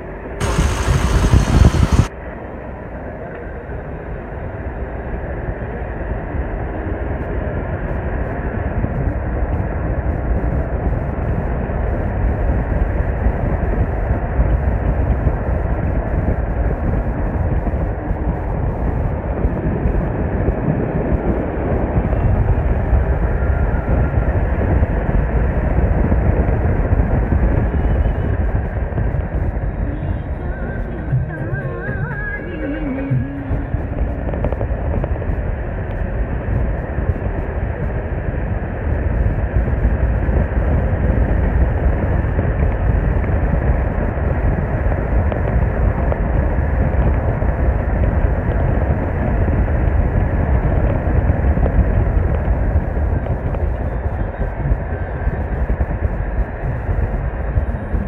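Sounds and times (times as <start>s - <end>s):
vehicle road and engine noise: 0.0s - 58.0s
wind buffeting microphone: 0.0s - 58.0s.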